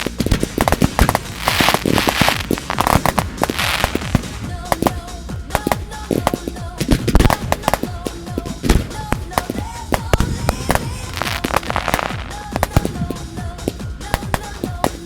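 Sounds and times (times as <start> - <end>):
fireworks bangs: 0.0 - 15.0
fireworks hissing crackle: 0.0 - 15.0.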